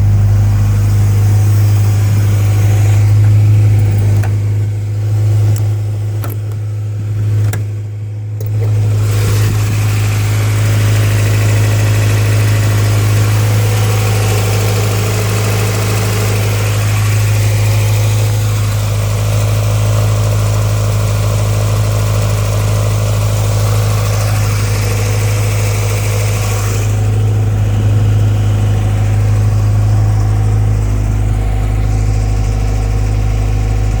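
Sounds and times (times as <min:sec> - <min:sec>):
four-cylinder engine idling: 0:00.0 - 0:34.0.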